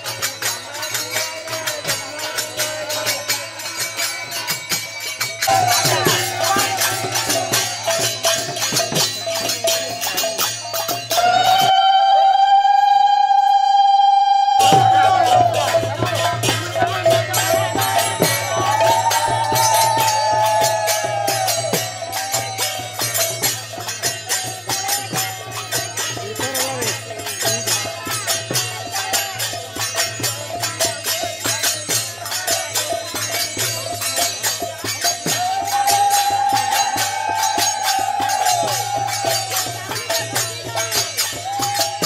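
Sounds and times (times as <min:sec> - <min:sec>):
metallic percussion strikes: 0:00.0 - 0:12.5, 0:14.5 - 0:42.0.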